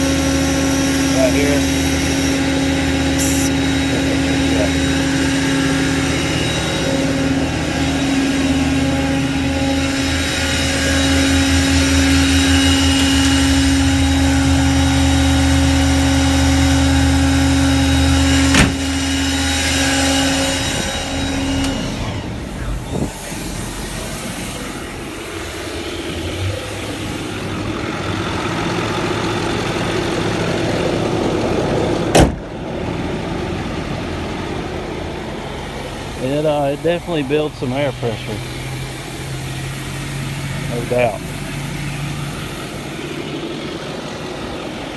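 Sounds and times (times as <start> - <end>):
air compressor droning: 0.0 - 44.9
diesel engine idling: 0.0 - 44.9.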